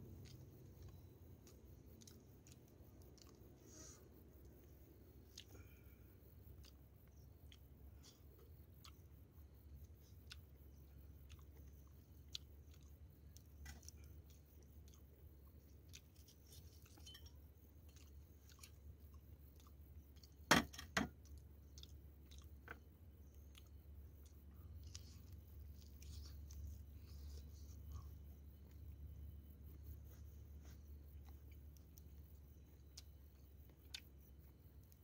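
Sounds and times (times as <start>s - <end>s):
person chewing: 0.0s - 20.5s, 21.1s - 35.0s.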